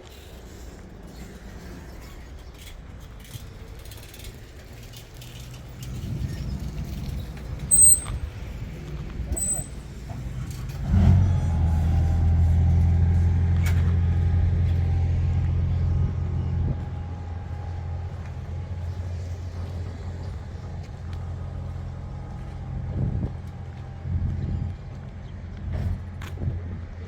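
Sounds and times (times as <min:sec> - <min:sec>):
combine harvester engine running: 0:04.6 - 0:27.0.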